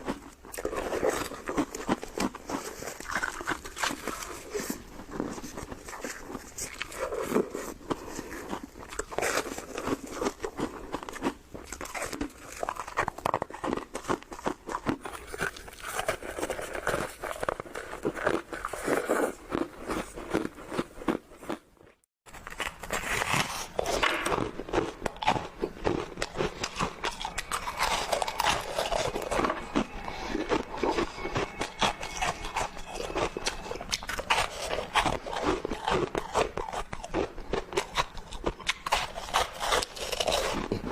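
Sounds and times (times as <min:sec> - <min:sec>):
crunching and chewing snow: 0:00.0 - 0:21.6, 0:22.3 - 0:40.9.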